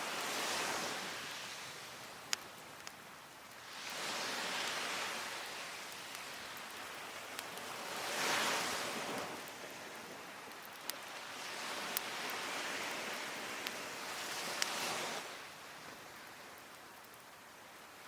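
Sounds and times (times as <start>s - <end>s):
waves washing onto a beach: 0.0s - 18.0s
wood fire crackling: 0.1s - 18.0s.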